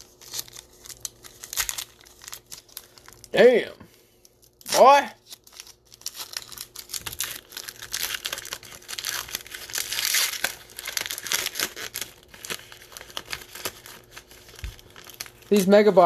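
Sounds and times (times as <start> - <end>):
plastic wrapping rustling and crackling: 0.0 - 3.4, 4.2 - 16.0.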